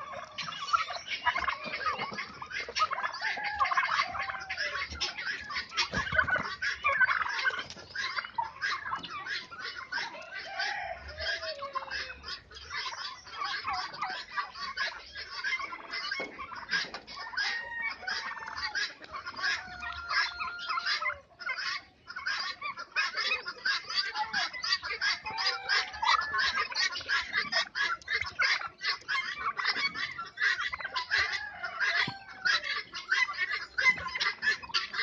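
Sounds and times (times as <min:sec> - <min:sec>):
turkeys clucking and chattering: 0:00.0 - 0:35.0.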